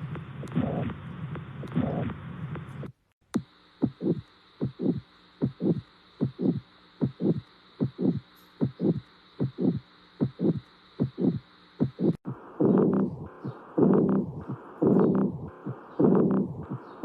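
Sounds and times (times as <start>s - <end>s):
faint steady hum: 0.0s - 17.0s
heartbeat lub-dub: 0.0s - 17.0s.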